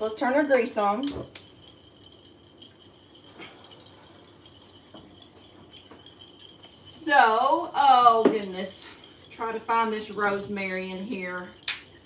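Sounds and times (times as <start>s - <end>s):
utensils clicking and clinking: 0.0s - 12.0s.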